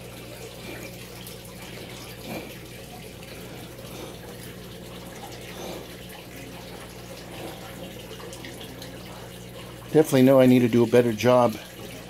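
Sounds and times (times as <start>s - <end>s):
running water trickling: 0.0s - 12.0s.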